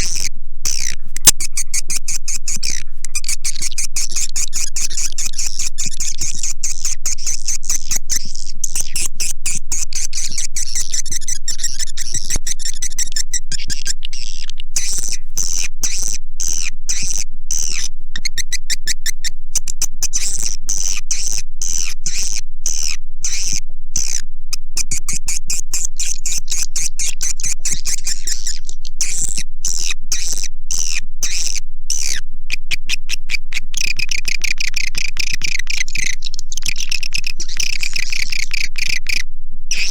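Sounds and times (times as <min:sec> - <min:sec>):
swiftlets chittering and clicking: 0:00.0 - 0:24.2, 0:24.8 - 0:39.9
faint low hum: 0:00.0 - 0:39.9.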